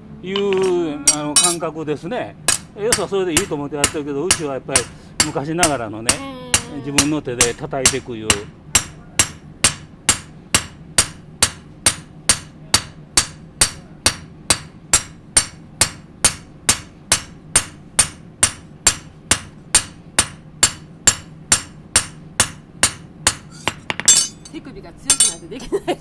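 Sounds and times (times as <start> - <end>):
hammer striking steel on anvil: 0.4 - 1.6, 2.5 - 25.5.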